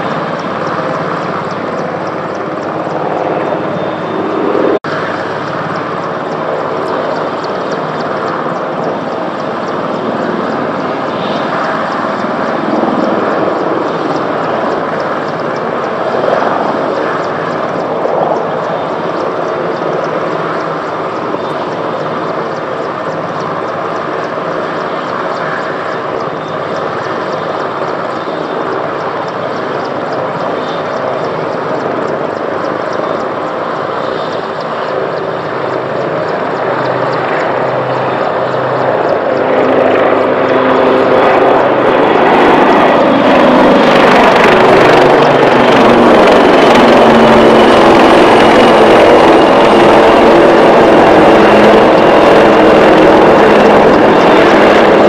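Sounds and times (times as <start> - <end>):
helicopter rotor and engines: 0.0 - 55.0.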